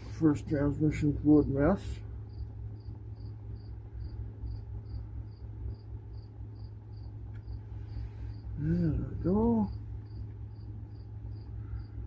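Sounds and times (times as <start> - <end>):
low steady hum: 0.0 - 12.0
cricket chirping: 1.3 - 12.0.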